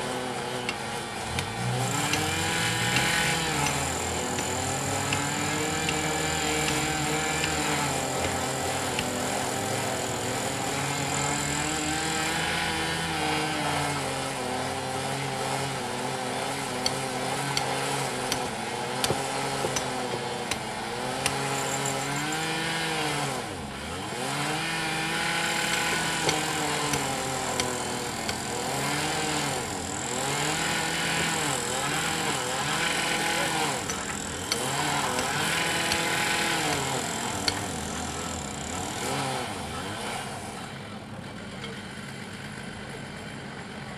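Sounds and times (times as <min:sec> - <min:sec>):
track-repair machinery engine running: 0:00.0 - 0:43.9.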